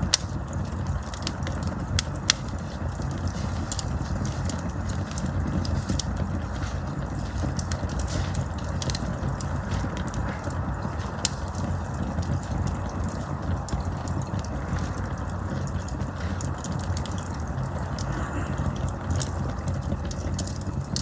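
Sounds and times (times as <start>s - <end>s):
campfire burning: 0.0s - 21.0s
wood crackling and popping: 0.0s - 21.0s.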